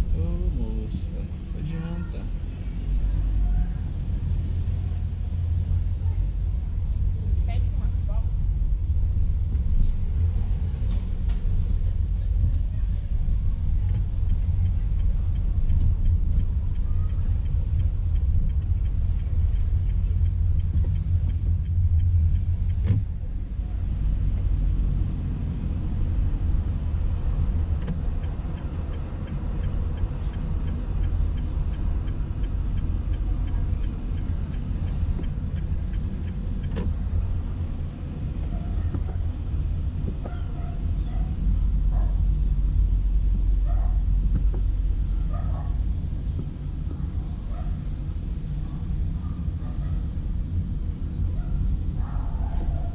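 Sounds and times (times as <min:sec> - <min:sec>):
vehicle engine and road rumble: 0:00.0 - 0:52.9.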